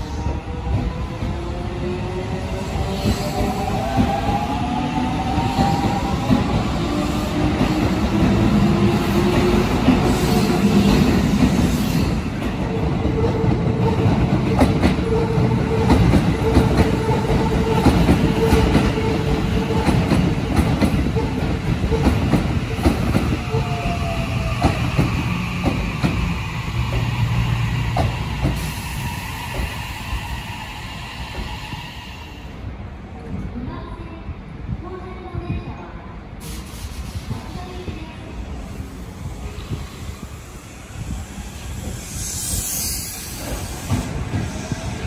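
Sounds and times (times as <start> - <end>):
train humming: 0.0 - 45.0.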